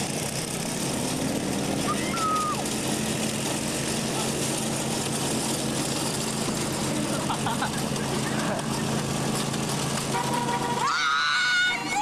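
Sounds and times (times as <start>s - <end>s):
lawn mower engines droning: 0.0s - 12.0s.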